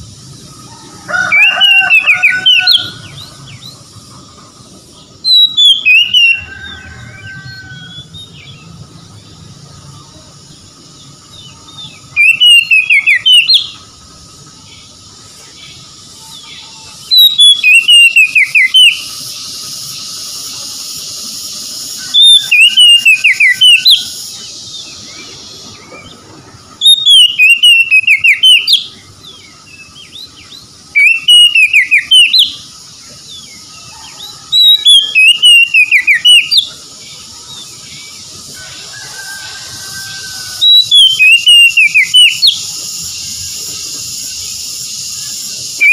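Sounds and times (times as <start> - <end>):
steady high hiss: 0.0 - 45.9
bird singing whistled notes: 5.1 - 9.4, 10.5 - 13.9, 14.6 - 26.2, 26.8 - 38.7, 40.1 - 45.9.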